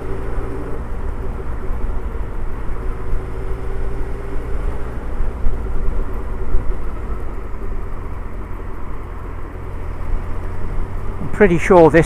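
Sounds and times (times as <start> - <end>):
motorcycle engine rumble: 0.0 - 12.0
road noise: 0.0 - 12.0.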